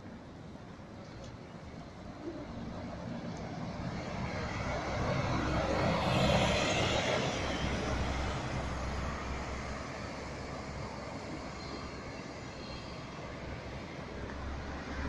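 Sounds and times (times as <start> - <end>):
bus driving past: 1.9 - 15.0.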